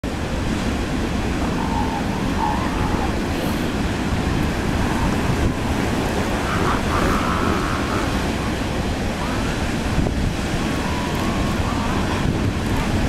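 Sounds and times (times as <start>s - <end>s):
surf on the beach: 0.0s - 13.0s
wind rumble on microphone: 0.0s - 13.0s.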